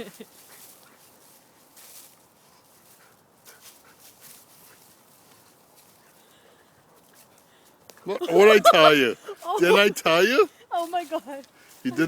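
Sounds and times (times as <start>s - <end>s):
dog paws scratching sand: 0.0s - 6.2s, 8.4s - 12.0s.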